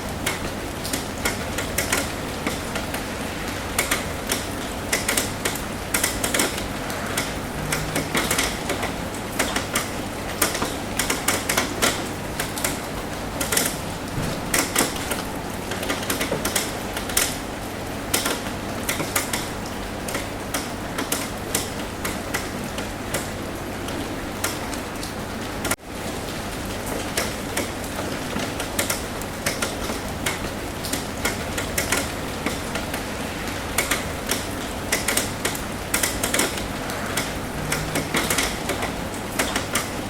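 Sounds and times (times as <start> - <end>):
rain tapping on a roof: 0.0 - 40.0.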